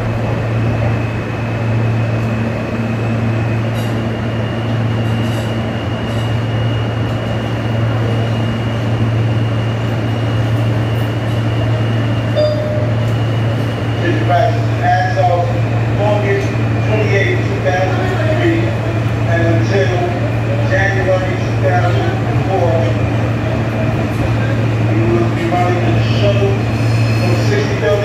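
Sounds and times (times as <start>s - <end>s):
subway train rumble and rail noise: 0.0s - 28.0s.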